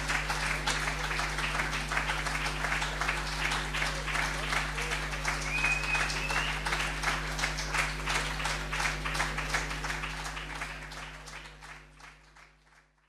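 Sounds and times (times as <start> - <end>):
steady low hum: 0.0 - 12.3
audience applauding: 0.0 - 13.0.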